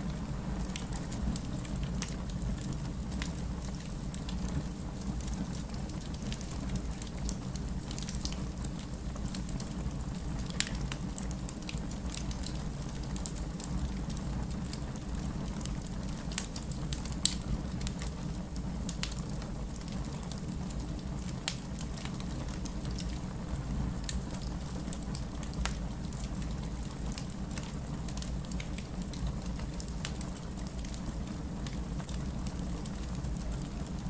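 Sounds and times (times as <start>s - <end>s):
low rumble of flame: 0.0s - 34.0s
wood fire crackling: 0.0s - 34.0s
burning logs snapping and popping: 0.1s - 23.3s, 24.0s - 34.0s.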